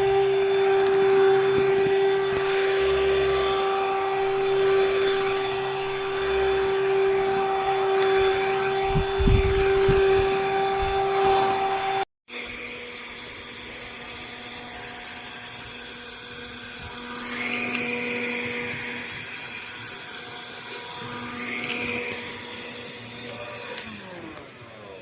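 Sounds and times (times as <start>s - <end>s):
handheld vacuum cleaner whirring: 0.0s - 25.0s.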